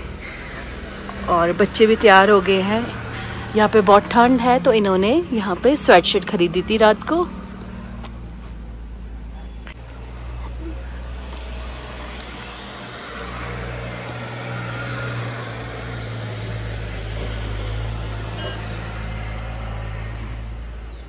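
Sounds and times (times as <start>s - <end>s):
road noise: 0.0s - 21.0s
vehicle engine humming: 0.0s - 21.0s.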